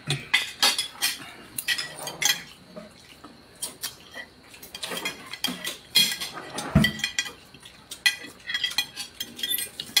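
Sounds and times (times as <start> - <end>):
spoons and plates clinking: 0.1 - 2.6, 3.6 - 10.0.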